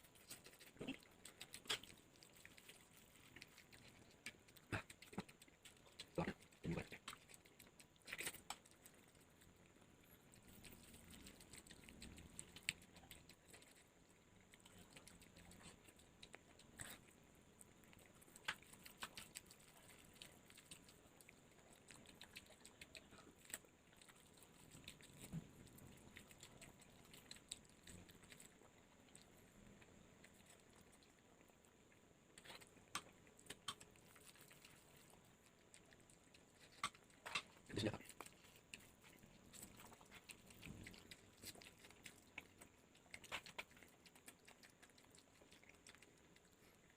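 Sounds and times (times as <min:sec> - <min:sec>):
soft chewing: 0:00.0 - 0:46.9.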